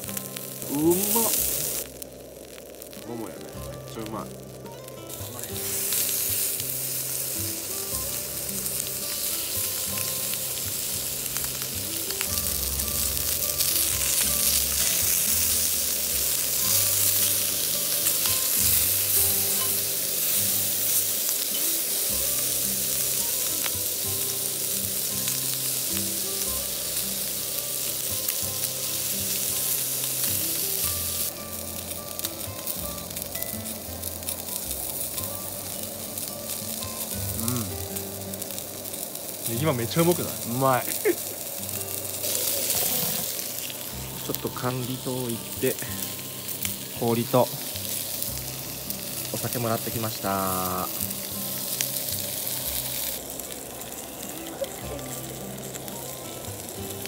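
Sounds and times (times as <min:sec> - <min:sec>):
meat sizzling on a hot plate: 0:00.0 - 0:57.0.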